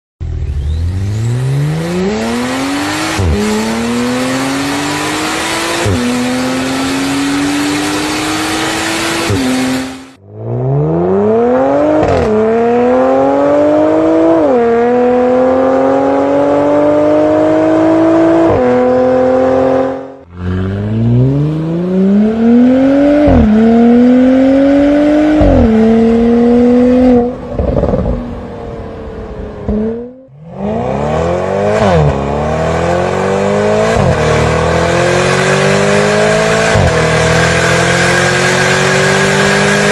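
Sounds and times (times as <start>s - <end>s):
car engine accelerating hard: 0.2s - 39.9s.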